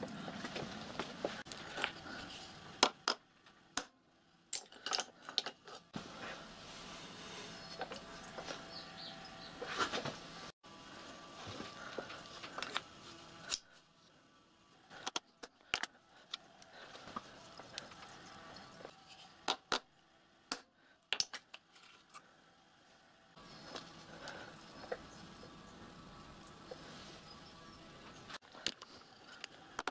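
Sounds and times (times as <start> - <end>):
faint workshop room noise: 0.0 - 29.9.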